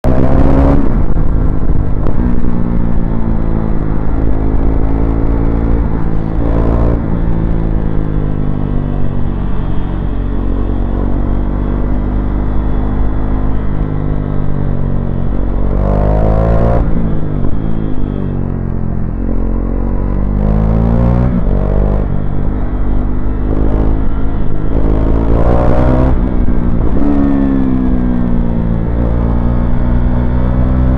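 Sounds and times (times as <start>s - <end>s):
motorcycle engine accelerating: 0.0s - 30.9s.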